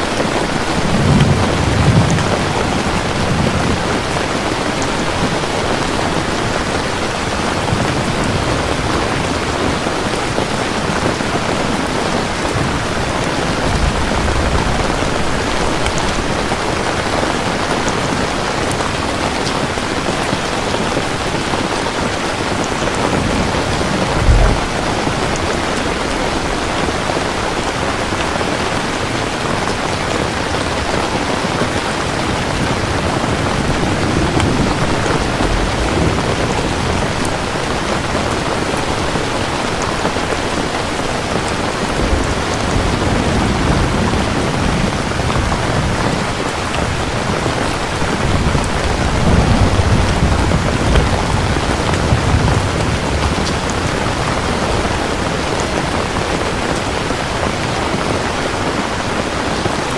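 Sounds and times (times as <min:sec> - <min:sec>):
thunder rumbling: 0:00.0 - 0:58.8
steady rain: 0:00.0 - 0:59.9.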